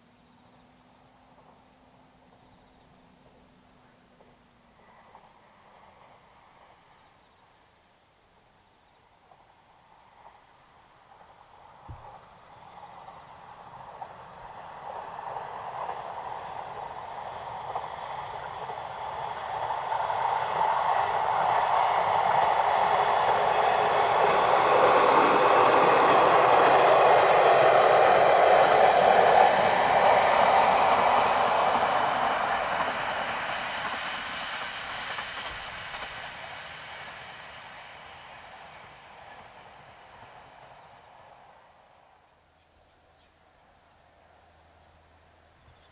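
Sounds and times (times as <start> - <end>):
diesel train passing: 0.0 - 45.9.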